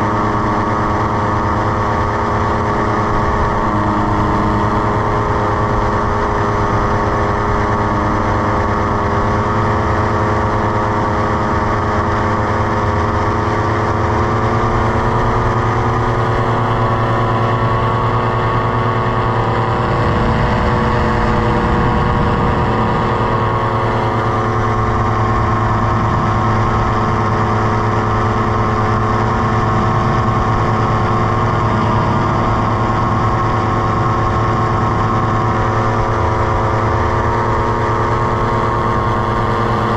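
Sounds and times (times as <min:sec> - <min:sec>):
paramotor engine and propeller drone: 0:00.0 - 0:39.9.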